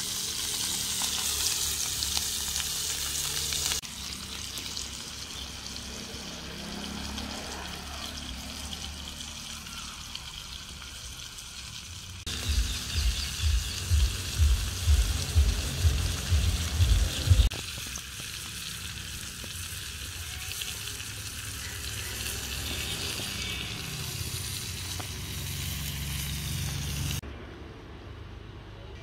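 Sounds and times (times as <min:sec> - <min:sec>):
fish frying in oil: 0:00.0 - 0:27.2.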